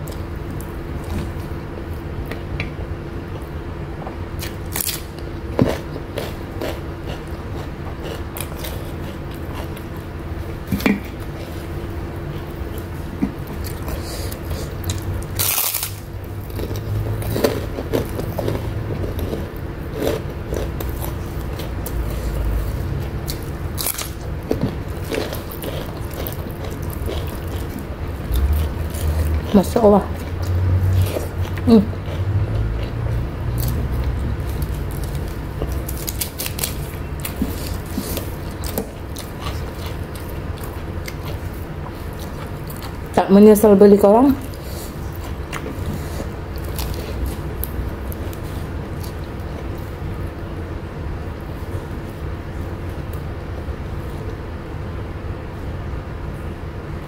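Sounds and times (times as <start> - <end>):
faint hum: 0.0 - 57.0
person chewing and crunching food: 3.2 - 43.2, 44.3 - 50.5.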